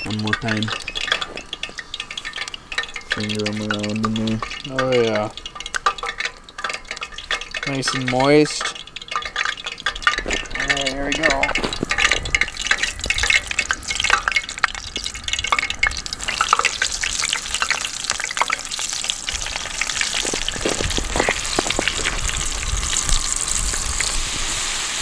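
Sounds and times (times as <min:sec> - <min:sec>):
shrimp frying in hot oil: 0:00.0 - 0:25.0.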